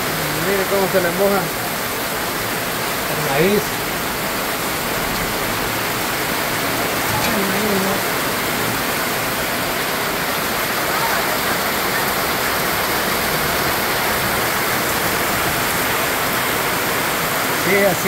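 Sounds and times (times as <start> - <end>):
heavy rain on a metal roof: 0.0 - 18.0.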